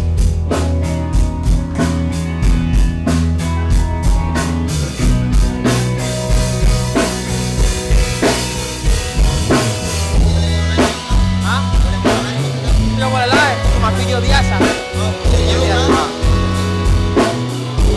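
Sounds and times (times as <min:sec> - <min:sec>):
drum kit beat: 0:00.0 - 0:17.9
held bass line: 0:00.0 - 0:17.9.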